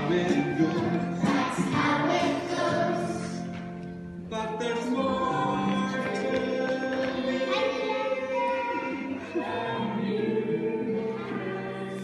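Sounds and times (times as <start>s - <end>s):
young children singing: 0.0s - 3.6s, 4.7s - 12.0s.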